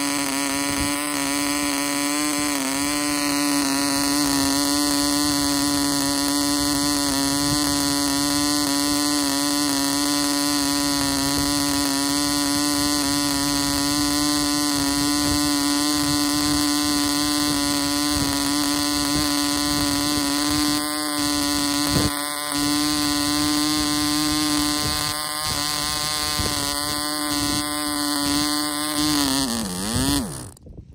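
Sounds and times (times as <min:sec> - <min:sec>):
model engine high-pitched buzz: 0:00.0 - 0:30.9.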